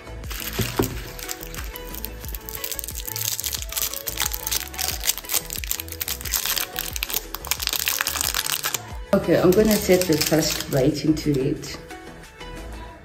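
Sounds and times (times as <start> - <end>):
background music: 0.0 - 13.0
foil wrapper crinkling: 0.2 - 10.8.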